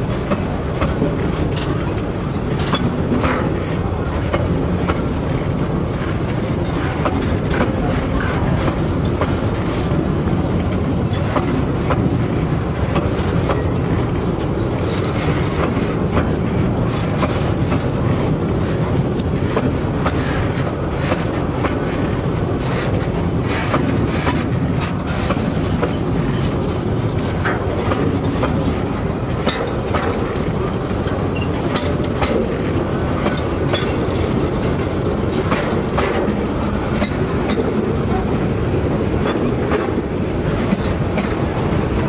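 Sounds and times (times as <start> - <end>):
train wheels rumbling on rails: 0.0 - 42.0
wheels clacking over rail joints: 0.0 - 42.0.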